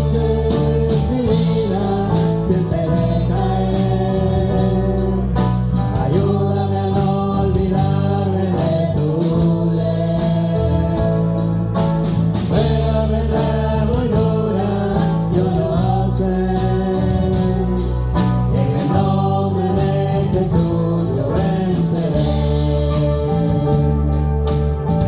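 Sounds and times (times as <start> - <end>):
band playing worship song: 0.0 - 25.0
voices singing: 0.0 - 25.0.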